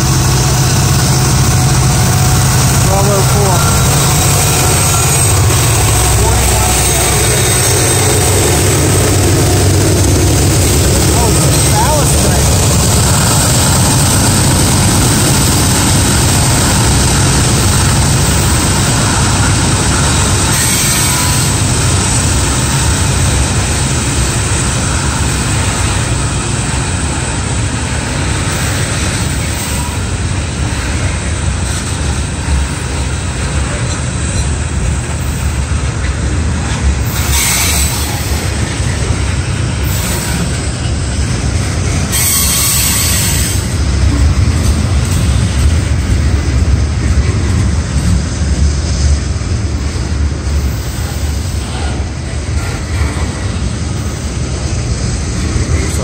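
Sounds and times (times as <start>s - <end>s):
steel wheels rumbling on rail: 0.0s - 56.0s.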